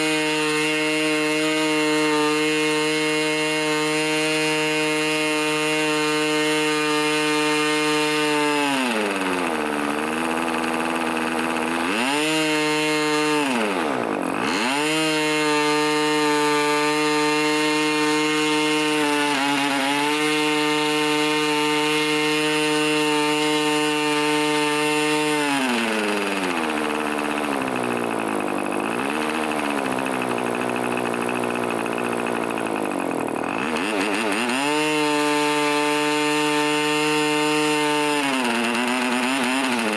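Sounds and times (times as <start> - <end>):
model diesel engine revving: 0.0 - 39.9.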